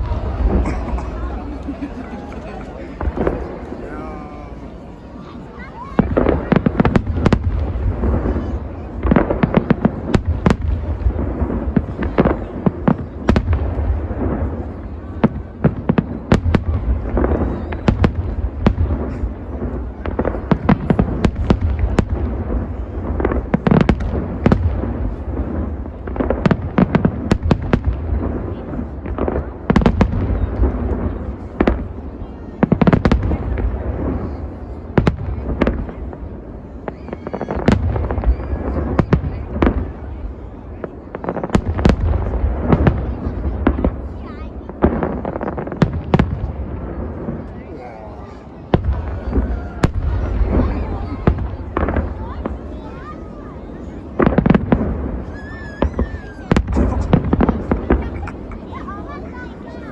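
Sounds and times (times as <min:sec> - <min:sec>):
fireworks bursts and bangs: 0:00.0 - 0:59.9.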